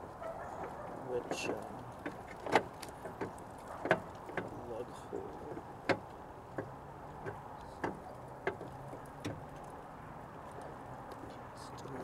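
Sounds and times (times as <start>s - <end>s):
light sharp clicks and taps: 0.0s - 12.0s.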